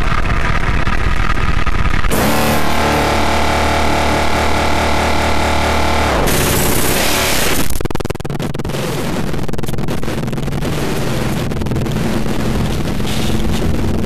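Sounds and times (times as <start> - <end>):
dense crackling static: 0.0 - 14.0
loud noise burst: 0.0 - 14.0
steady low drone: 0.0 - 14.0.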